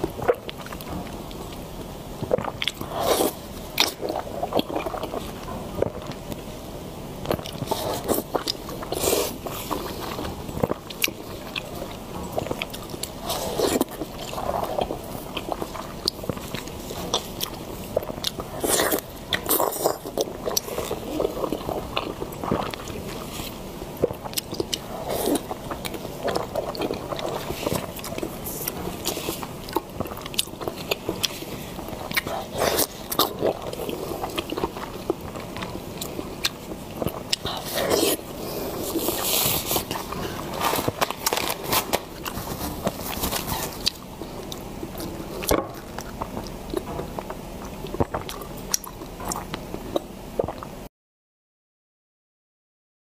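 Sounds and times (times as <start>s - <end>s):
wet chewing mouth sounds: 0.0s - 6.4s, 7.2s - 50.8s.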